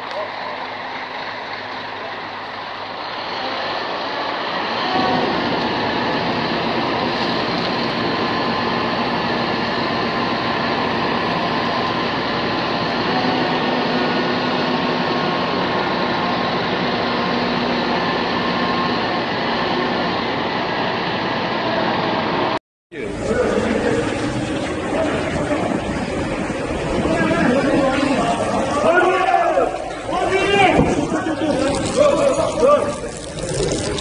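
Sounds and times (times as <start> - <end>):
heavy truck running: 0.0 - 34.0.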